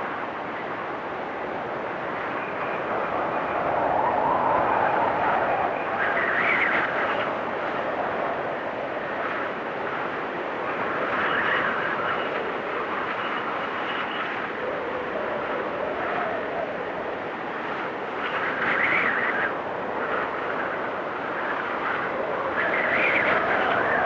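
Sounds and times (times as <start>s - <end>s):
blizzard wind gusting: 0.0s - 24.0s.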